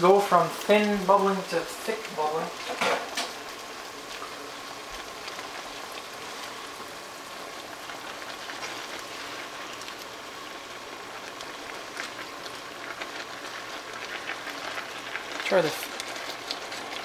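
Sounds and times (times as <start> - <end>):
sauce bubbling and sizzling: 0.0 - 17.0.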